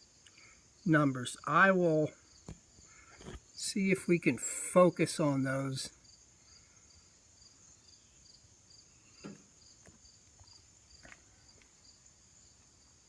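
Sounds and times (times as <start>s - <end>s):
crickets chirping: 0.0s - 13.0s
high insect trill: 0.0s - 13.0s.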